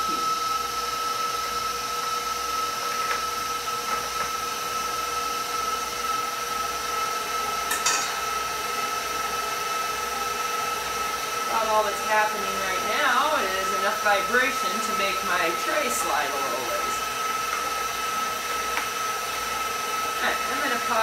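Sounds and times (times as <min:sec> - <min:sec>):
mixer motor whining: 0:00.0 - 0:21.0.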